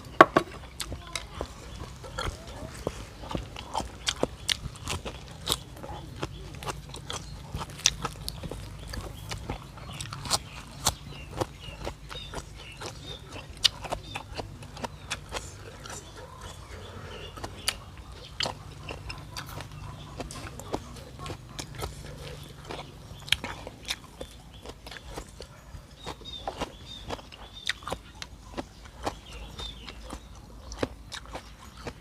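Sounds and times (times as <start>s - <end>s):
person chewing and smacking: 0.0s - 32.0s.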